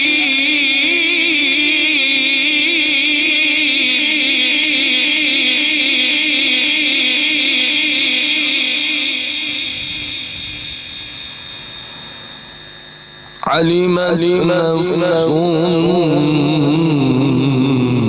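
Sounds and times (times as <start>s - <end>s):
man reciting melodically: 0.0s - 10.3s, 13.4s - 18.0s.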